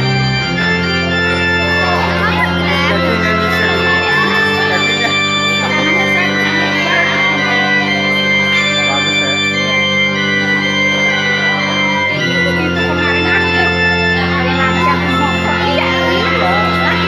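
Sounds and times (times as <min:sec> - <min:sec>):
electronic keyboard organ melody: 0:00.0 - 0:17.0.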